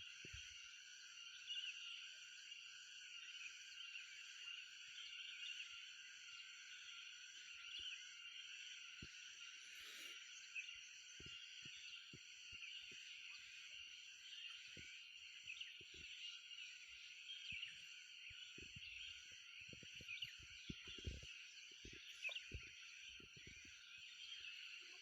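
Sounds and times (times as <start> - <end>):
insects chorus: 0.0 - 25.0
faint bird chirps: 1.2 - 25.0.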